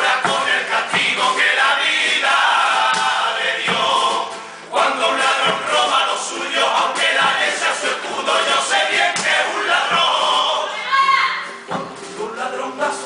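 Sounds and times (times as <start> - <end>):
male chorus singing: 0.0 - 10.9, 12.0 - 13.0
guitar accompaniment: 0.0 - 13.0.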